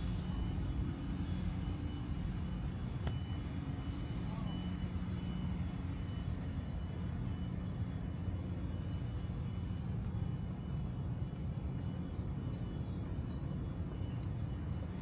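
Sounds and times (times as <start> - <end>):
urban background rumble: 0.0 - 15.0.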